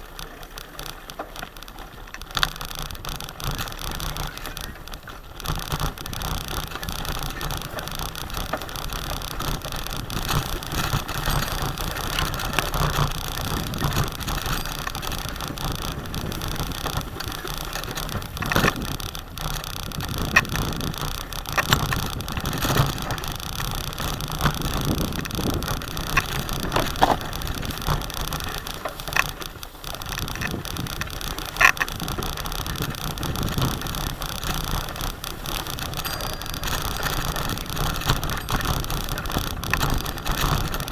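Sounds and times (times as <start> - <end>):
bicycle rattling: 0.0 - 40.9
wind on microphone: 3.4 - 40.9.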